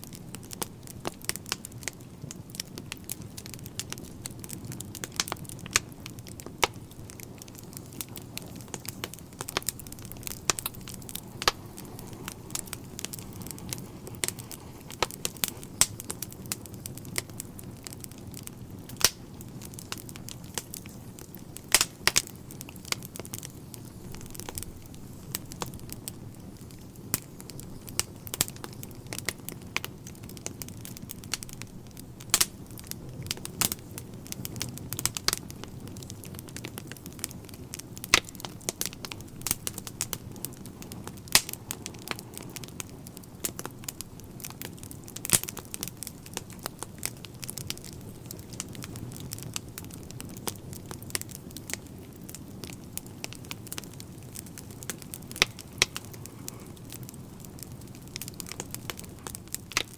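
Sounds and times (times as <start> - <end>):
burning logs crackling and popping: 0.0 - 59.9
wood fire hissing: 0.0 - 59.9.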